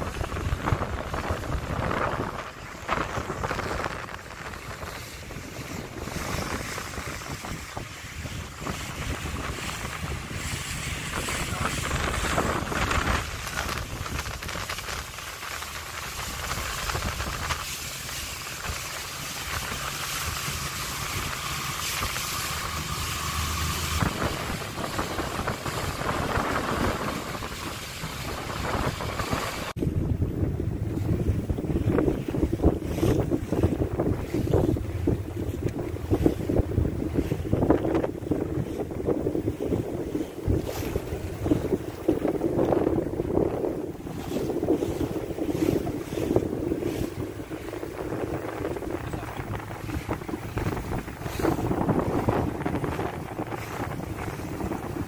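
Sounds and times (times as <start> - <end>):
boat engine hum: 0.0 - 55.0
waves: 0.0 - 55.0
wind noise on microphone: 0.0 - 55.0.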